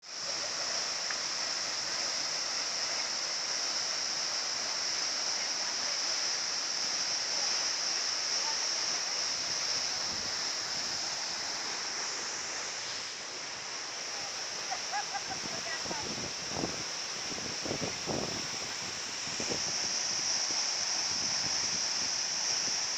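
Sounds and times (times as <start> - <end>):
waterfall rushing: 0.1 - 22.9.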